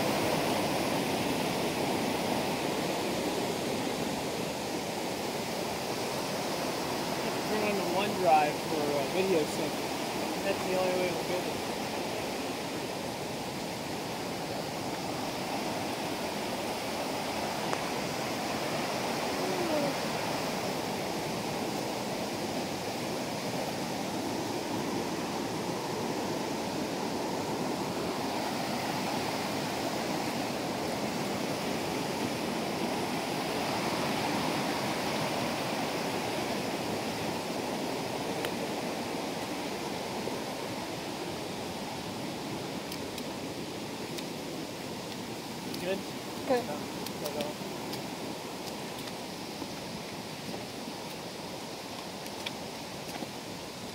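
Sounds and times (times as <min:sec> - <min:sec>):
creek water rushing over rocks: 0:00.0 - 0:53.9.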